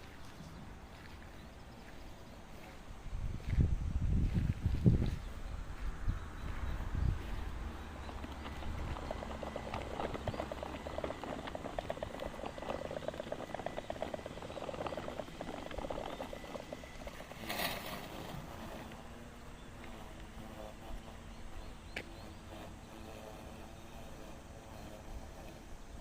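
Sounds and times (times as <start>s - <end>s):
robotic lawn mower cutting grass: 0.0s - 26.0s.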